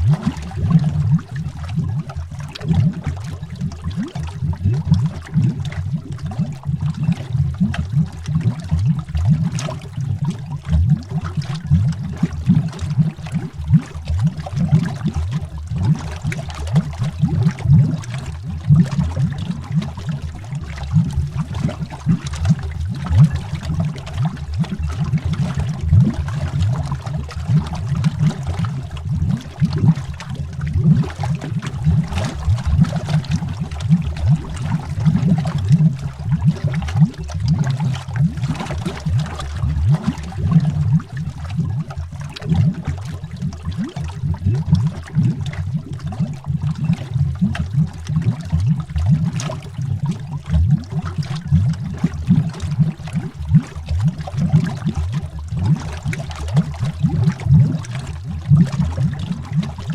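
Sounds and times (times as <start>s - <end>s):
underwater bubbling: 0.0s - 59.9s.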